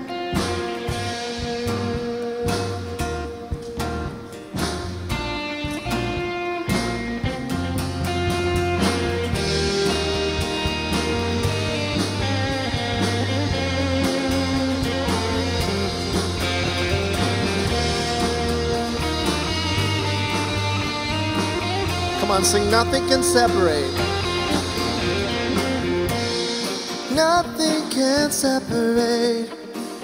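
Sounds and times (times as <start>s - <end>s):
bass line: 0.0s - 29.1s
drums keeping a beat: 0.0s - 30.0s
guitars: 0.0s - 30.0s.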